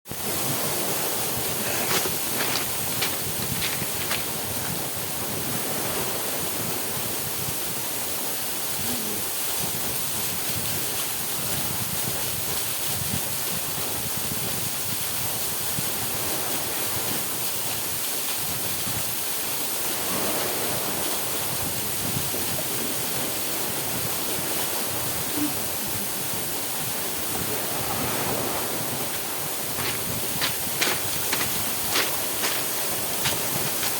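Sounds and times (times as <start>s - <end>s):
small waterfall pouring: 0.2s - 5.5s, 7.6s - 25.2s, 26.0s - 33.9s.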